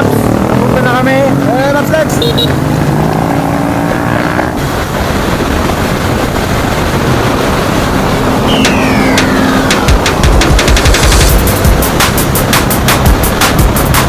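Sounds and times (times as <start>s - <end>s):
motorcycle engine: 0.0s - 14.0s
wind noise over microphone: 2.6s - 14.0s.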